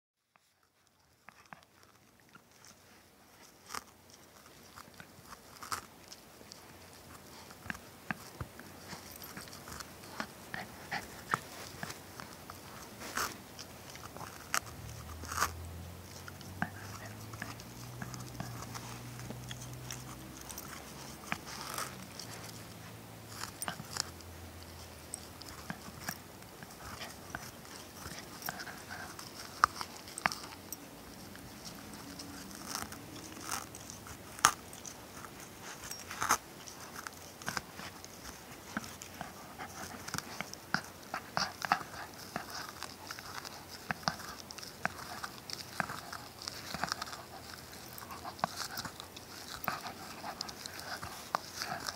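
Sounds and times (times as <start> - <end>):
puppy chewing tennis ball: 0.4 - 51.9.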